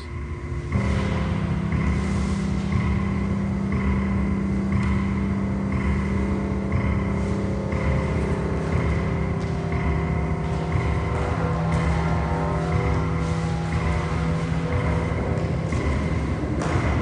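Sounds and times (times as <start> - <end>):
ambient drone music: 0.0 - 17.0.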